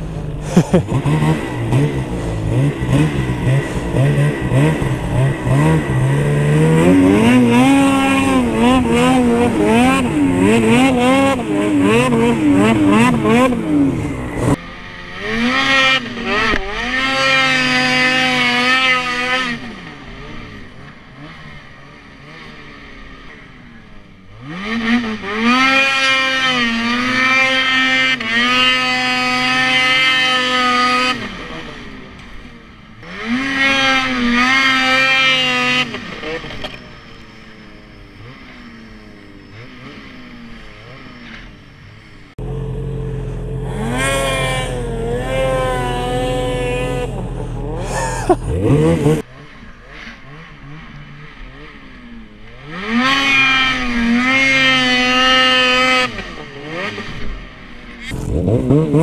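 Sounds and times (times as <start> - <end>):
snowmobile engine revving: 0.0 - 23.6, 24.4 - 32.1, 33.0 - 36.8, 42.3 - 51.9, 52.5 - 59.0.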